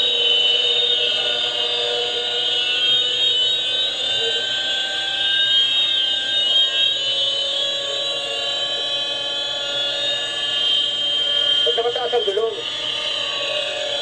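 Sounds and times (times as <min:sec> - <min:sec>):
helicopter engine and rotors whining: 0:00.0 - 0:14.0.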